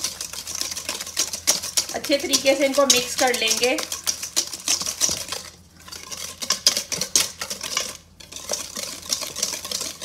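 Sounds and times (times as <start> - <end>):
wire whisk beating in metal bowl: 0.0 - 10.0.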